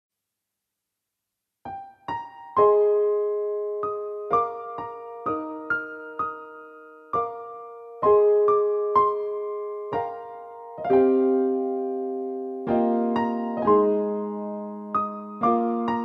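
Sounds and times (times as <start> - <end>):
slow electric piano melody: 1.7 - 16.0.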